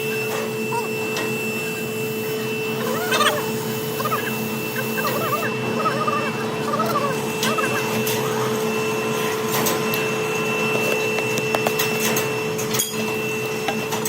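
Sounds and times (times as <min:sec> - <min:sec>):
machine whining: 0:00.0 - 0:14.0.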